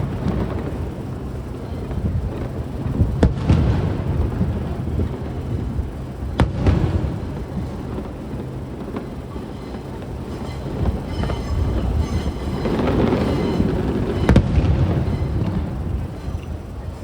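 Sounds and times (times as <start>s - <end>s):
fireworks booming: 0.0s - 17.0s
fireworks crackling: 0.0s - 17.0s
low rolling rumble: 0.0s - 17.0s.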